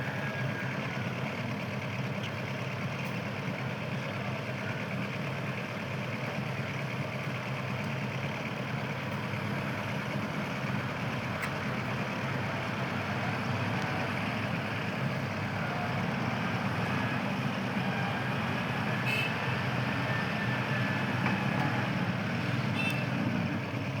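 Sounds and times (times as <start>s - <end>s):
heavy engine droning: 2.8s - 24.0s.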